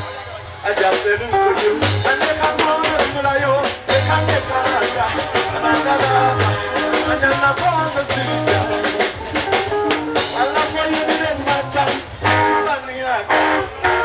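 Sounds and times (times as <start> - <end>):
drum kit hits: 0.0 - 12.7
electric bass line: 0.0 - 14.0
live band music: 0.0 - 14.0.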